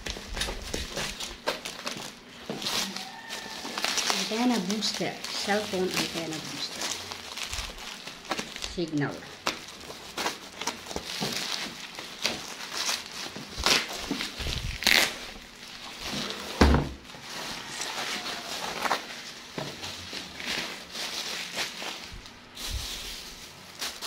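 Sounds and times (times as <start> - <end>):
bubble wrap crinkling: 0.0 - 24.0.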